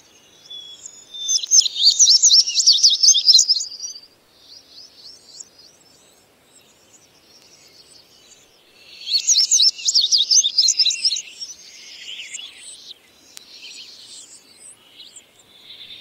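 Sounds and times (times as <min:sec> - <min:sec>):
faint bird song: 0:00.0 - 0:16.0.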